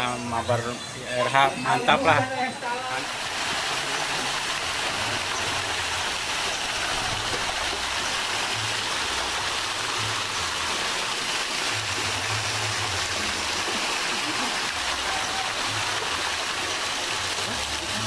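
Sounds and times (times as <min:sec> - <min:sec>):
rushing splashing water: 0:02.7 - 0:18.0.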